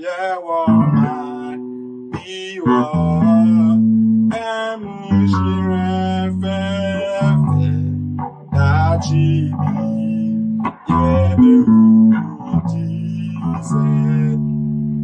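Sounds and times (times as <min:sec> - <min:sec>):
bass guitar low notes: 0:00.7 - 0:15.0.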